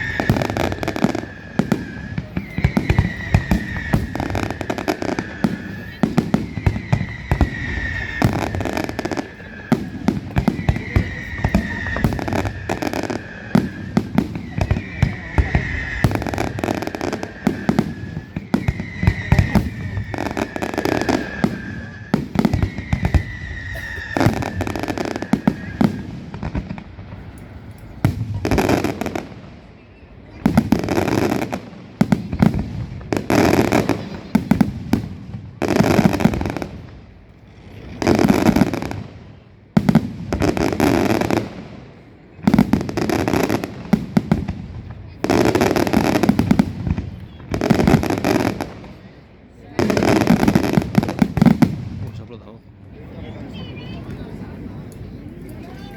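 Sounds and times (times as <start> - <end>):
fireworks crackling: 0.0 - 55.9
fireworks whistling: 0.0 - 55.9.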